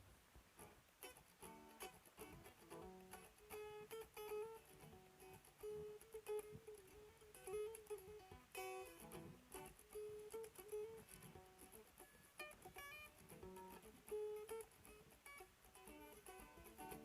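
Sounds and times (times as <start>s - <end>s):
picked guitar melody: 0.6s - 17.0s.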